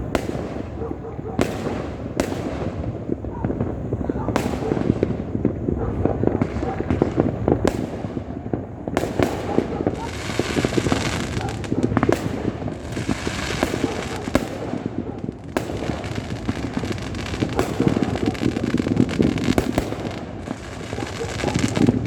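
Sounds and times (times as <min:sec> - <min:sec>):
fireworks and firecrackers: 0:00.0 - 0:22.0.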